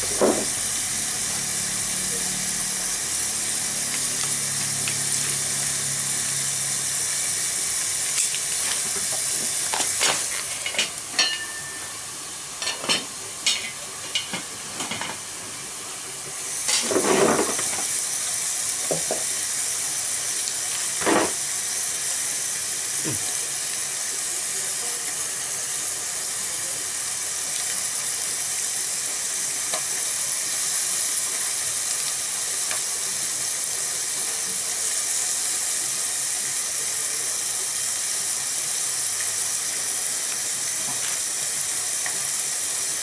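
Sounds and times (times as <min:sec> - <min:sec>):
wood fire hissing: 0:00.0 - 0:43.0.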